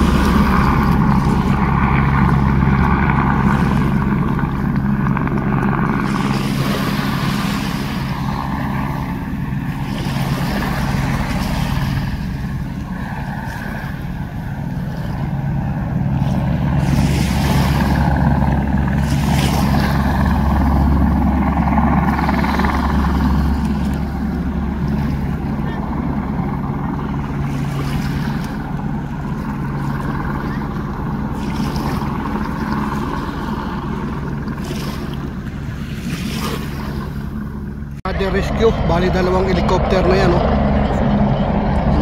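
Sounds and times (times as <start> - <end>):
engine drone: 0.0 - 42.0
noisy rushing: 0.0 - 42.0.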